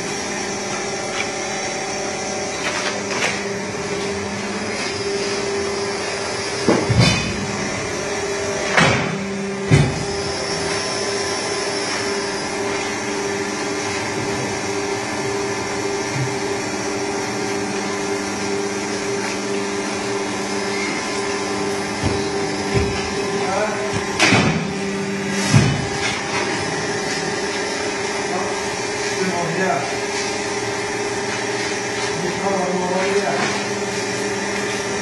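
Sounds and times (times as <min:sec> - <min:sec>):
cutting machine humming: 0:00.0 - 0:35.0.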